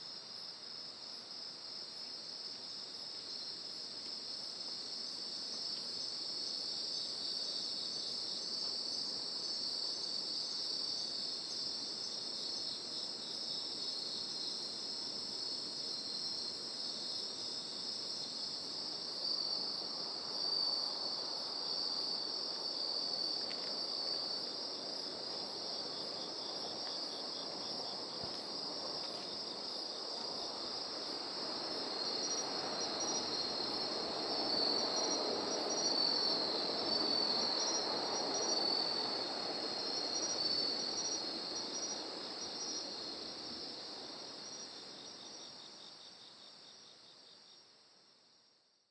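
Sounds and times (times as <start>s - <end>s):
crickets trilling: 0.0s - 47.6s
high insect chirp: 0.0s - 47.8s.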